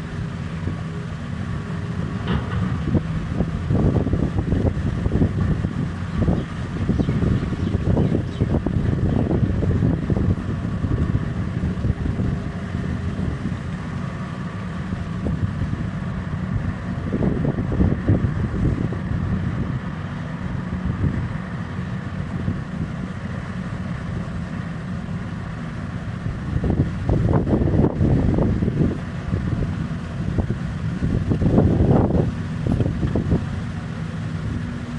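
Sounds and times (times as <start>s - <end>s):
mining machinery diesel rumble: 0.0s - 34.9s
wind buffeting the microphone: 0.0s - 34.9s.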